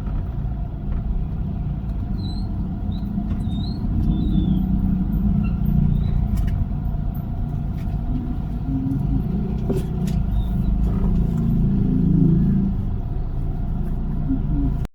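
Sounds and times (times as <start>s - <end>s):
car engine and tyre rumble: 0.0s - 14.9s.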